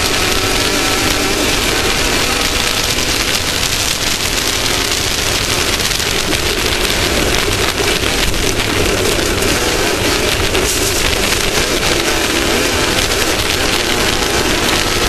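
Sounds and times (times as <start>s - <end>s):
race vehicle engine running hard: 0.0s - 15.0s
rush of wind and dirt: 0.0s - 15.0s.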